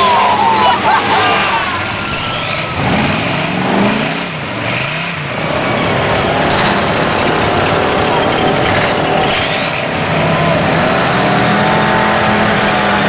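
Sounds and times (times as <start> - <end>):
high whine: 0.0 - 13.0
truck engine revving: 0.0 - 13.0.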